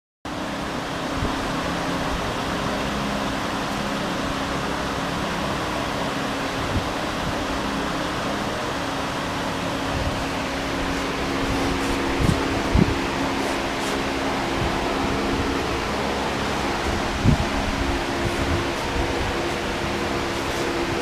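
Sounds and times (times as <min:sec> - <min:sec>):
machine humming: 0:00.3 - 0:21.0.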